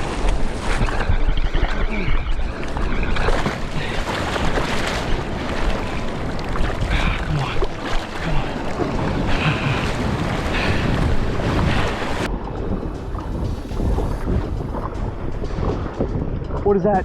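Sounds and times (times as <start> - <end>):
water sloshing around kayak: 0.0 - 16.8
wind buffeting microphone: 0.0 - 17.0.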